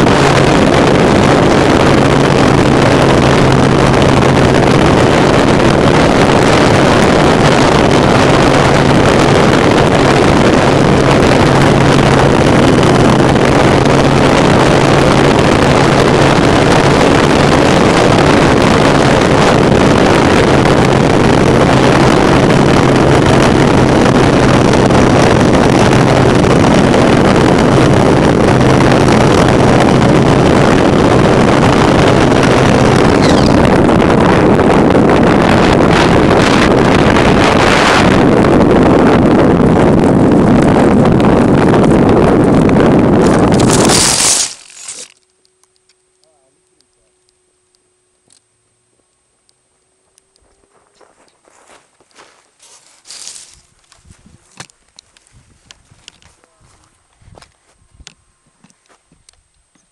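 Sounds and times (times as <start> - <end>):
airflow rushing over camera: 0.0 - 45.2, 50.0 - 59.1
steady low hum: 0.0 - 59.9.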